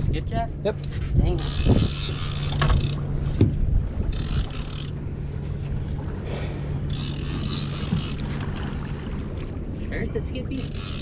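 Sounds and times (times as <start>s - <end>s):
boat engine humming: 0.0s - 11.0s
wind and water hiss: 0.0s - 11.0s.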